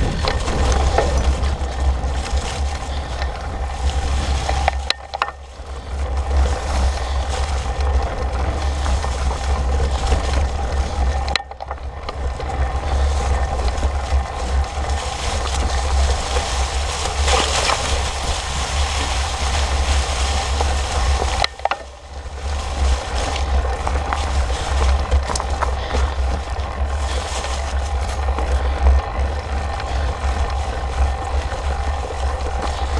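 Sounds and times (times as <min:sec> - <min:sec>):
bike clicks and rattles: 0:00.0 - 0:32.9
bike tyres on dry leaves: 0:00.0 - 0:32.9
wind rumble on microphone: 0:00.0 - 0:32.9.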